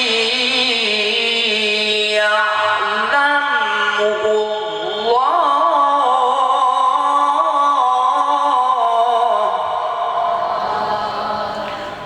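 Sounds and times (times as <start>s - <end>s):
man reciting melodically: 0.0s - 11.7s.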